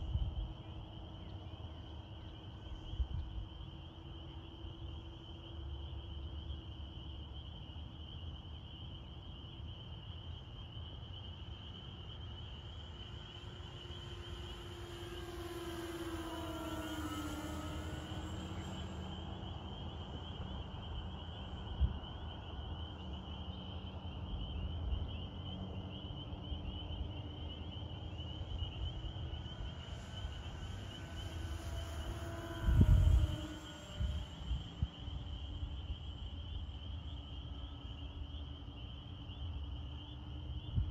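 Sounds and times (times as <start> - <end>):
low wind rumble: 0.0 - 7.0, 10.8 - 40.9
model plane propellers droning: 0.0 - 8.5, 9.9 - 40.9.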